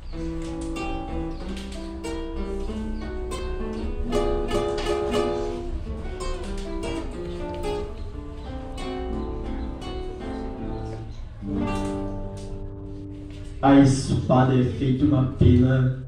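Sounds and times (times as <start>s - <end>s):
acoustic guitar playing: 0.0s - 15.6s.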